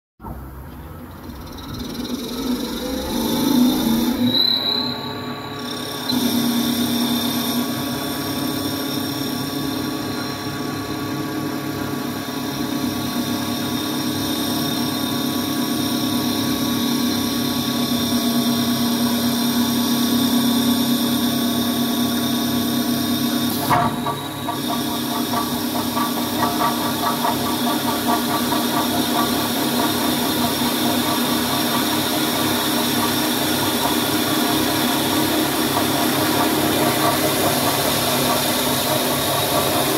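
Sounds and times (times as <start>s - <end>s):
wood lathe machine whine: 0.9s - 39.9s.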